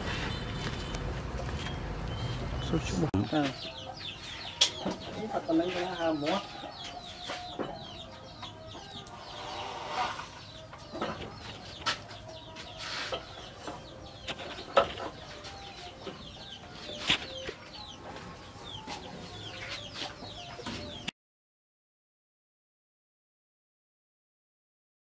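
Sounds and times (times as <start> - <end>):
chickens clucking: 0.0 - 21.1
small birds chirping: 0.0 - 21.1.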